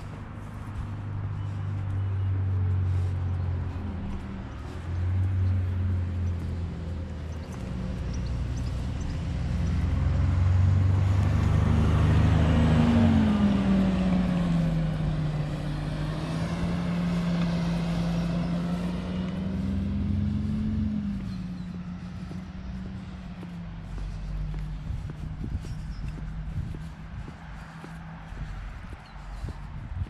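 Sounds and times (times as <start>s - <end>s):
bus engine passing: 0.0s - 30.0s.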